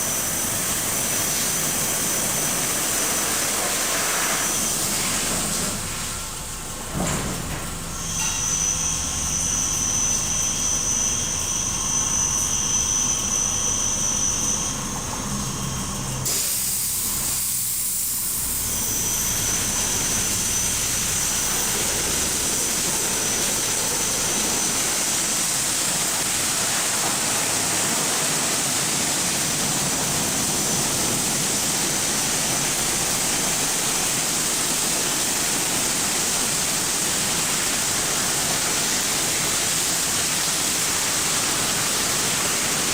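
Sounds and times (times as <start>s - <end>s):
rushing hiss of car wash: 0.0s - 42.9s
high whine: 7.9s - 42.9s.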